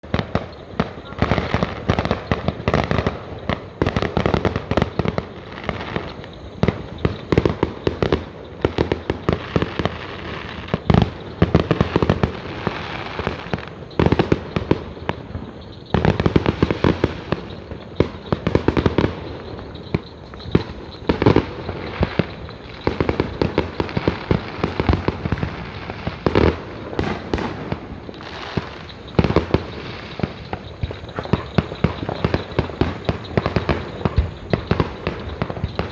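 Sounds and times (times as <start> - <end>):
fireworks bangs: 0.0 - 35.9
fireworks crackling: 0.0 - 35.9.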